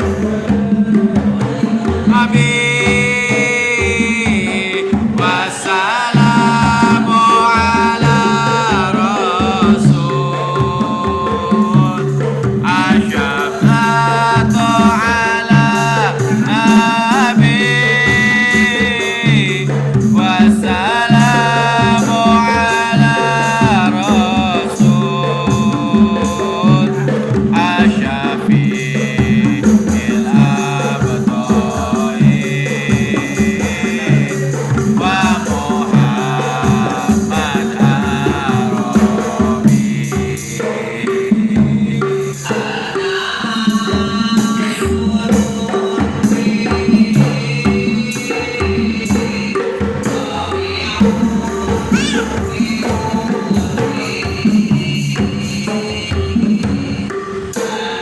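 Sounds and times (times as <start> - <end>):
solo voice singing devotional song: 0.0 - 58.0
steady drum rhythm: 0.0 - 58.0.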